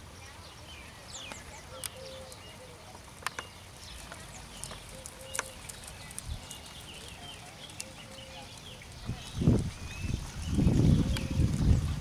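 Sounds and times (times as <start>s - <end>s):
birds chirping and calling: 0.1s - 12.0s.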